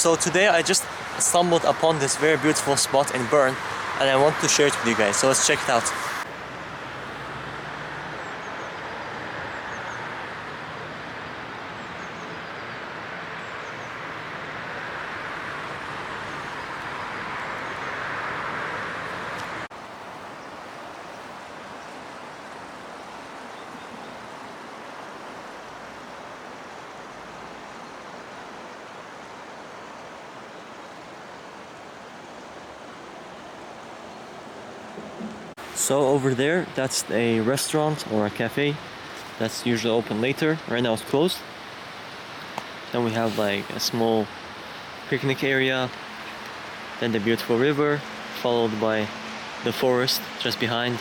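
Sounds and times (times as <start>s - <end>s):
river water rushing: 0.0s - 51.0s.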